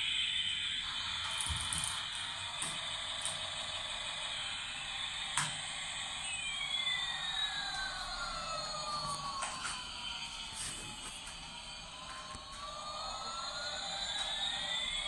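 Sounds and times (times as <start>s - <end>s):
toy engine hissing drone: 0.0s - 15.0s
gliding electronic tones: 2.2s - 15.0s.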